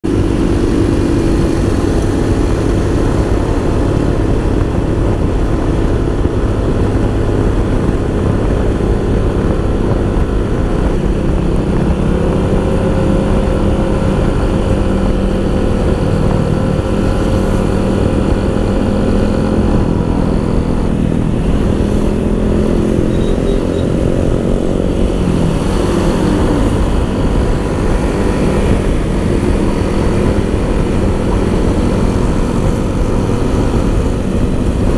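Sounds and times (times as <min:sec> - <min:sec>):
motor scooter engine running: 0:00.0 - 0:34.9
wind rush on microphone: 0:00.0 - 0:34.9.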